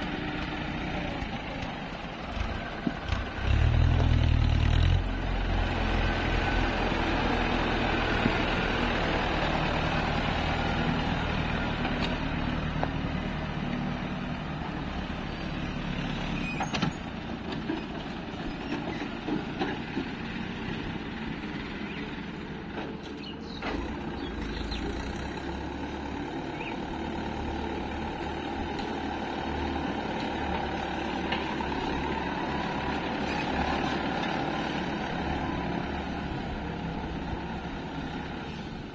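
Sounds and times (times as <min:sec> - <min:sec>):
diesel machinery running: 0:00.0 - 0:38.9.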